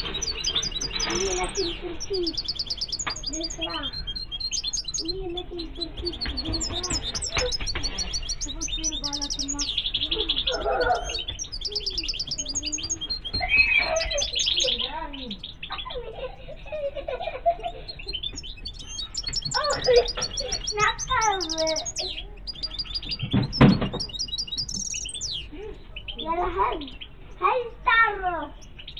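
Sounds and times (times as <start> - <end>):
buzzy bird trills: 0.0 - 28.9
goldfinches chirping: 0.0 - 28.9.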